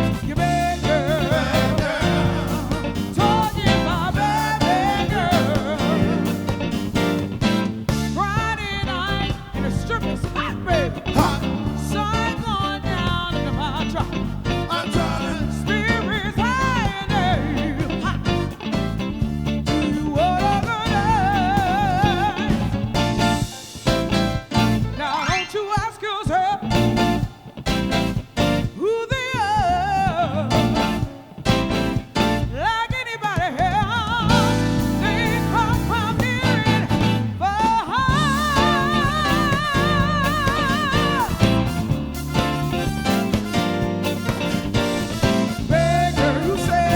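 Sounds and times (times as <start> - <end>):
soul band playing: 0.0 - 46.9.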